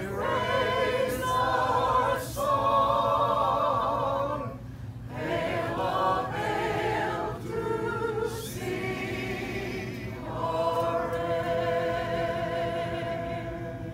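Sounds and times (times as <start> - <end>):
group of people singing: 0.0 - 13.9.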